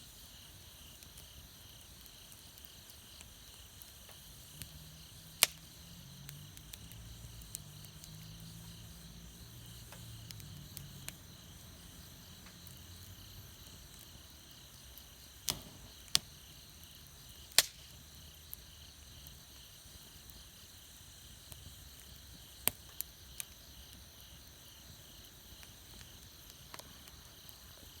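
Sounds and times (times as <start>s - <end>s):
campfire wood crackling: 0.0s - 28.0s
insects chirring: 0.0s - 28.0s.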